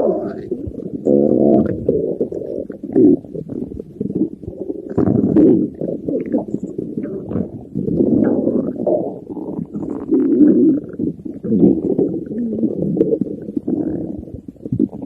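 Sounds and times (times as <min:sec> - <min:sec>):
stomach growling: 0:00.0 - 0:15.0.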